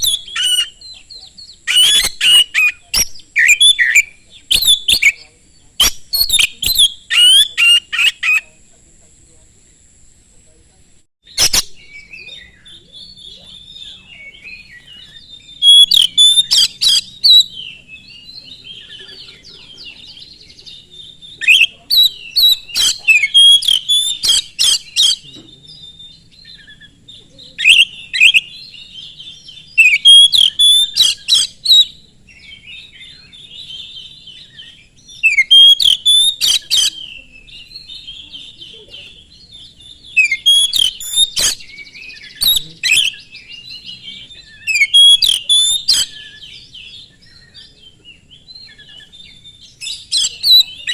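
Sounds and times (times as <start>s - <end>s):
bird singing sharp notes: 0.0s - 8.6s, 11.2s - 50.9s
soft bird twittering: 0.0s - 9.8s, 10.4s - 50.9s.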